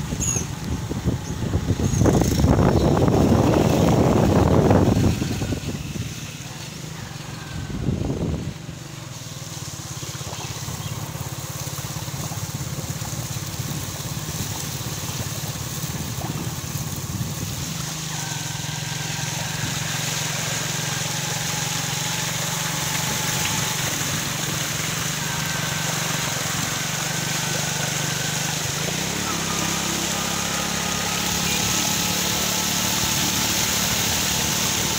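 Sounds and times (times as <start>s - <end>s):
hissing water spray: 0.0s - 34.9s
motorbike engine running: 0.0s - 34.9s.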